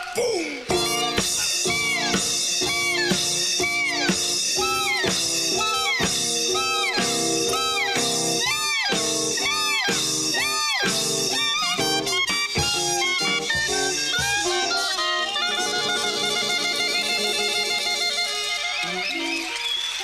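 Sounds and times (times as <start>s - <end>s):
live band playing: 0.0s - 20.0s
lead instrument bending notes: 0.7s - 19.6s.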